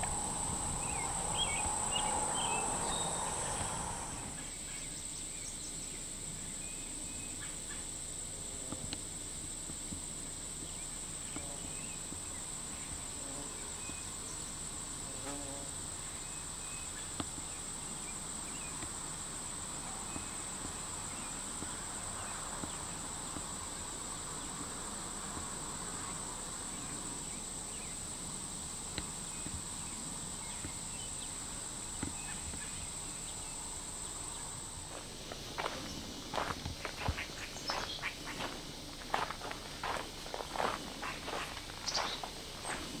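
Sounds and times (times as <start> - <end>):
insects chirping: 0.0 - 43.0.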